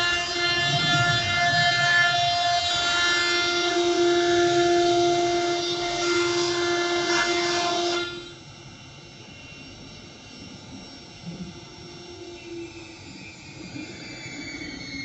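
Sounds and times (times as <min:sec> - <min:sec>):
machine hum: 0:00.0 - 0:15.0
router spindle whining: 0:00.0 - 0:15.0.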